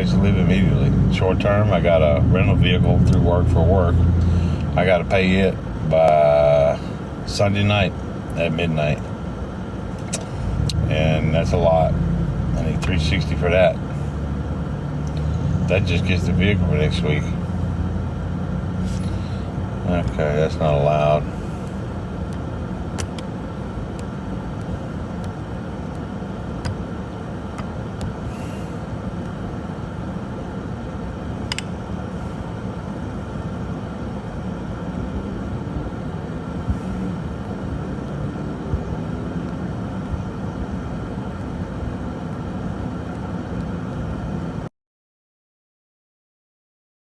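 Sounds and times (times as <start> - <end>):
motor vehicle low rumble: 0.0 - 44.7.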